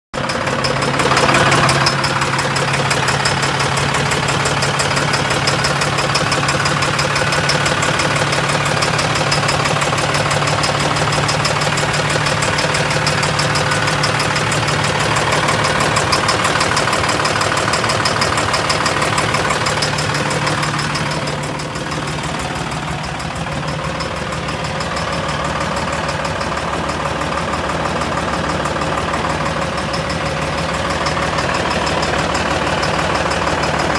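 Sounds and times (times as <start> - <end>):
engine idling with knocking: 0.2 - 33.9.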